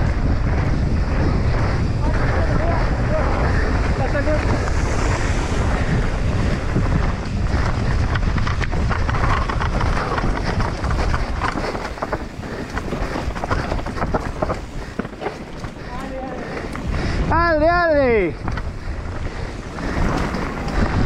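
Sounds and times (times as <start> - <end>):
bike rattling: 0.0 - 21.0
bike tyres on dirt trail: 0.0 - 21.0
wind buffeting microphone: 0.0 - 21.0.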